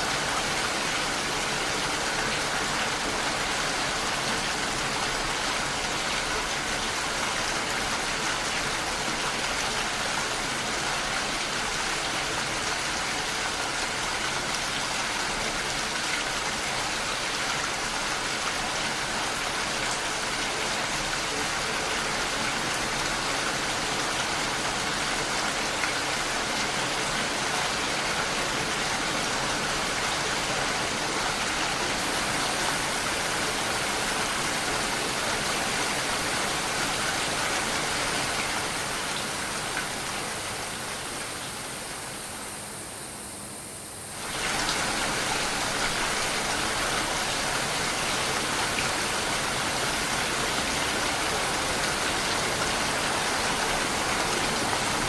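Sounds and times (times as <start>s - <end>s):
rainfall hiss: 0.0s - 55.0s.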